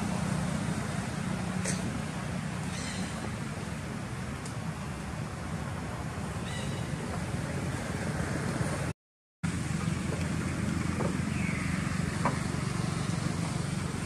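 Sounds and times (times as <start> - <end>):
low outdoor rumble: 0.0 - 8.9, 9.5 - 14.0.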